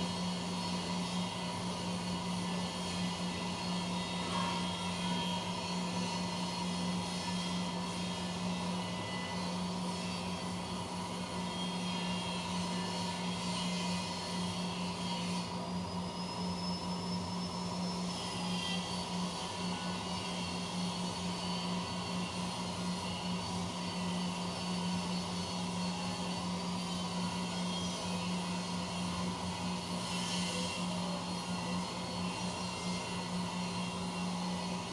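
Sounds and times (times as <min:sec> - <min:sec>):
machine high whine: 0:00.0 - 0:34.9.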